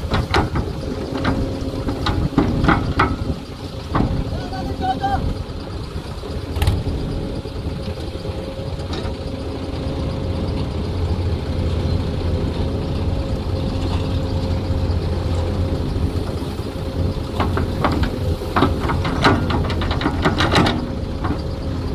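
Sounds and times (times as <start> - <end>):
heavy diesel engine running: 0.0 - 21.9.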